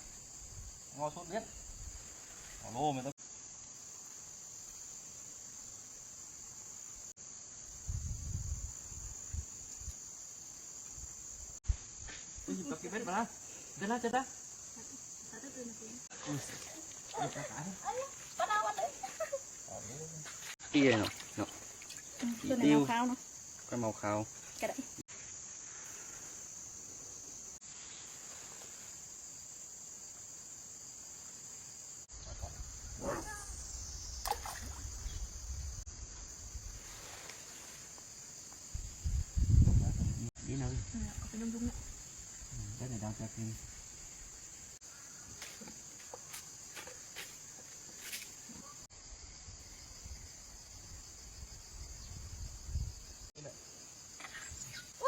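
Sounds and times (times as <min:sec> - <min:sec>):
insects chorus droning: 0:00.0 - 0:55.0.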